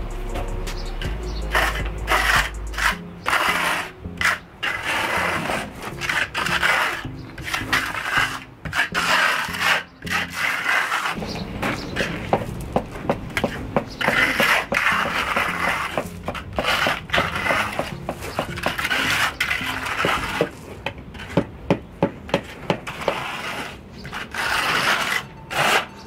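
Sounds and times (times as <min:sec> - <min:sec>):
trowel scraping wet mortar: 0:00.4 - 0:21.5, 0:22.3 - 0:26.0.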